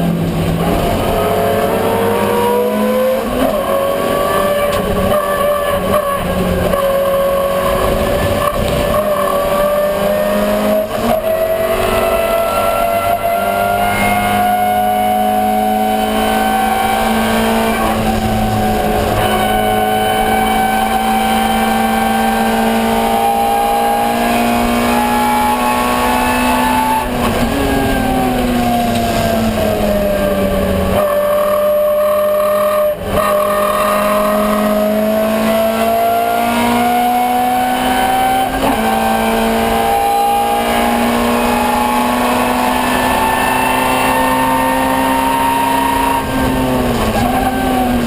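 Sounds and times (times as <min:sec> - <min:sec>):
race car engine revving high: 0:00.0 - 0:48.0.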